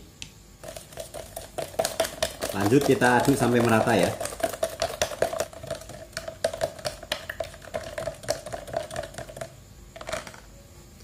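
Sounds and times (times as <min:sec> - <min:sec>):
spoon clicking against plastic cup: 0:00.6 - 0:09.5.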